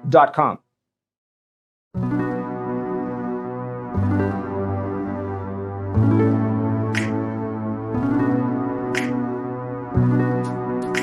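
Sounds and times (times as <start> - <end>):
soft ambient keyboard chords: 2.0 - 11.0.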